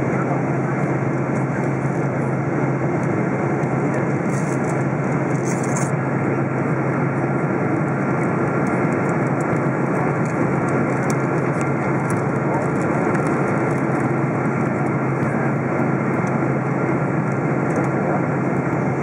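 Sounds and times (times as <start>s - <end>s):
low engine hum: 0.0s - 19.0s
rush of airflow in cabin: 0.0s - 19.0s.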